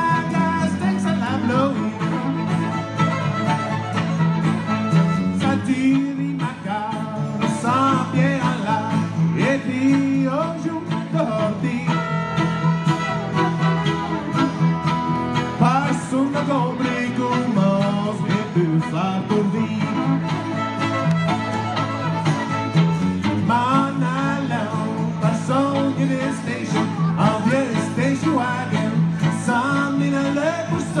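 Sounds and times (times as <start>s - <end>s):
acoustic guitar strumming: 0.0s - 31.0s
fiddles playing: 0.0s - 31.0s.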